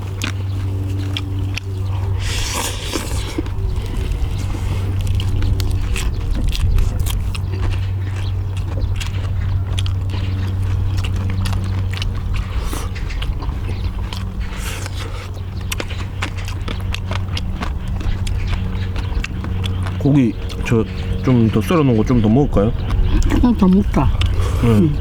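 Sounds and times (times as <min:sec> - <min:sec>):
low hum: 0:00.0 - 0:25.0
people chewing food: 0:00.0 - 0:25.0
mouth clicks and smacks: 0:00.1 - 0:21.4, 0:22.2 - 0:25.0.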